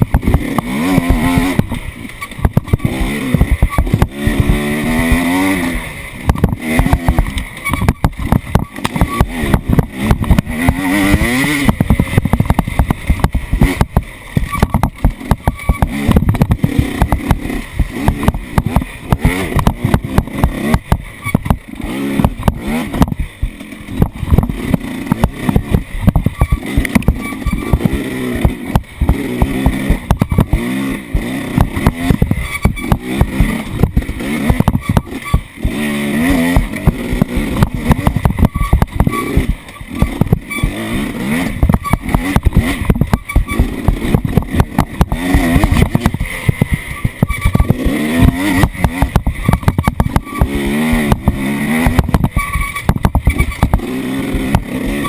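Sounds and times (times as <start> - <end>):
off-road vehicle engine revving: 0.0 - 55.0
vehicle knocks and jolts: 6.2 - 55.0.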